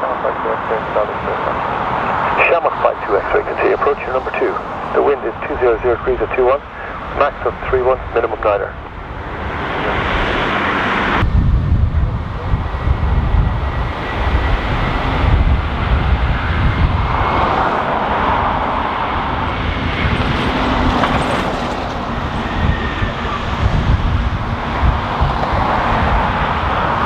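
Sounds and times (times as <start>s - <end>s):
jet engines whining: 0.0s - 27.0s
wind rumbling on microphone: 1.0s - 27.0s.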